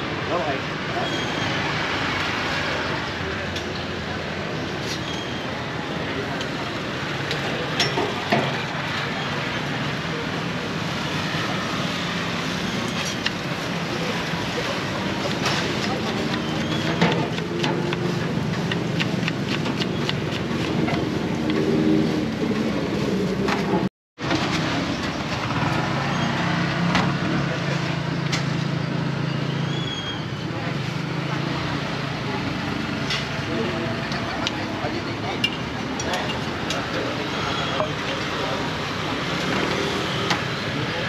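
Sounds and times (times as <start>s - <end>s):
street traffic: 0.0s - 41.0s.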